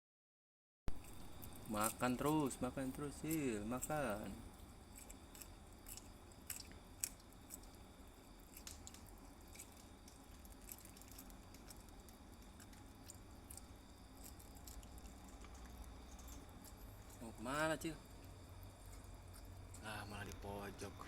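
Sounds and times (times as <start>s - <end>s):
pet chewing food clicks: 0.9s - 20.6s.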